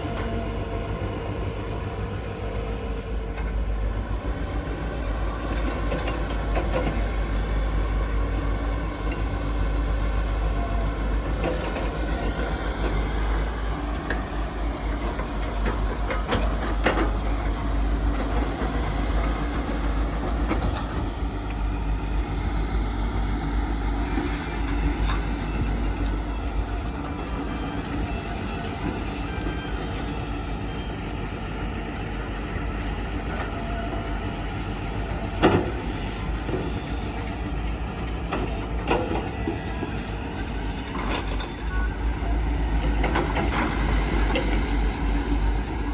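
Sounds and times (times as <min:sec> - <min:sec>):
heavy vehicle engine rumbling: 0:00.0 - 0:45.9.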